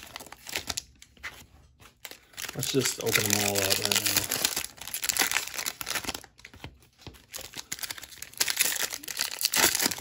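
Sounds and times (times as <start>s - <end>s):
foil wrappers crinkling: 0.0s - 10.0s.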